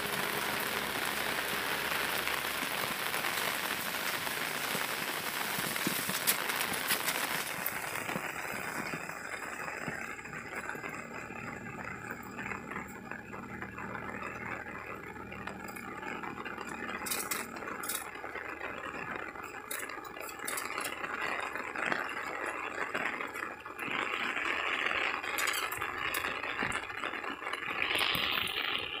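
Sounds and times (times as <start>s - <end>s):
rain falling steadily: 0.0s - 29.0s.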